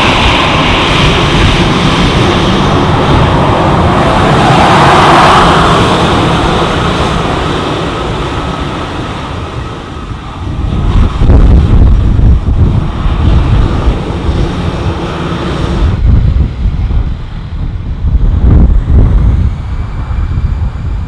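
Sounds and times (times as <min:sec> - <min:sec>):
jet blast buffeting microphone: 0:00.0 - 0:21.0
jet engines roaring at takeoff: 0:00.0 - 0:21.0.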